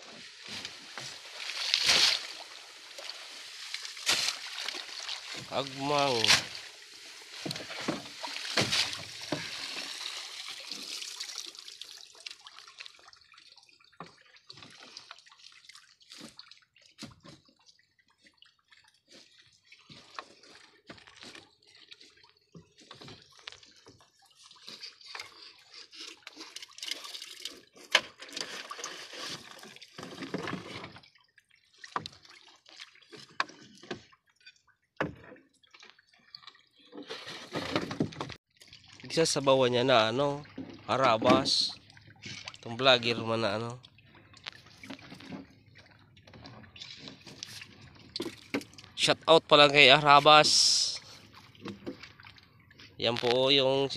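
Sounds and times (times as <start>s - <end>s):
seawater streaming and dripping: 0.0s - 53.9s
small splashes: 0.0s - 53.9s.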